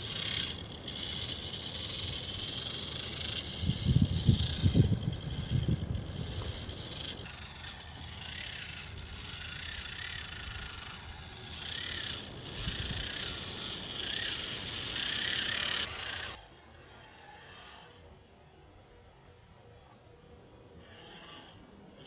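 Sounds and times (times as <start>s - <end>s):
toy car electric motor whining: 0.0s - 22.0s.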